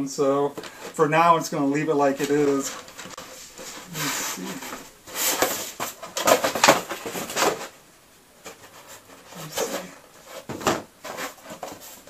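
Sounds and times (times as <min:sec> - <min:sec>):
cardboard packaging rustling: 0:00.6 - 0:07.8, 0:08.4 - 0:12.0.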